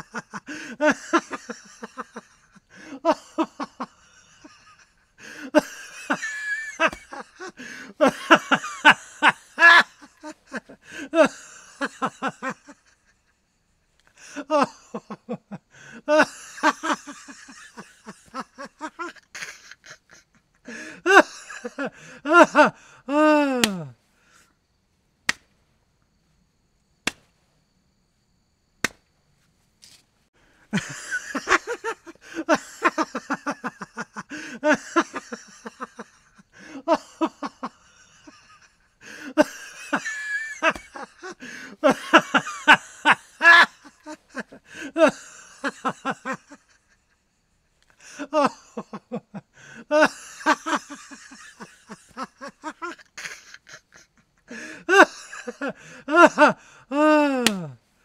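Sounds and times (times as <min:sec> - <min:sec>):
person laughing: 0:00.0 - 0:13.3, 0:14.2 - 0:24.0, 0:30.7 - 0:47.2, 0:47.9 - 0:57.8.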